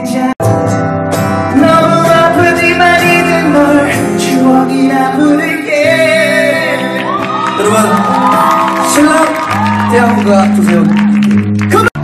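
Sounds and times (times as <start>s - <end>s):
man singing a pop ballad: 0.0s - 0.8s, 1.4s - 11.1s.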